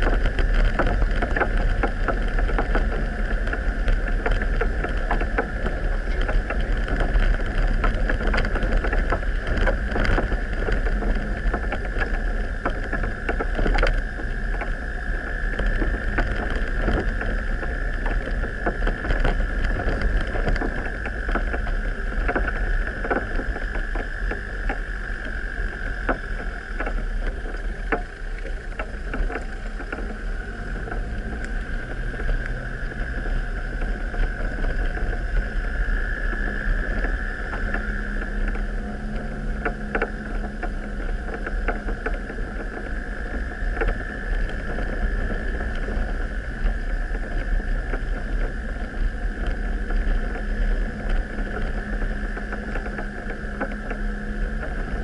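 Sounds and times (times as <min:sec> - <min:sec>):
high whine: 0:00.0 - 0:55.0
vehicle engine rumble: 0:00.0 - 0:55.0.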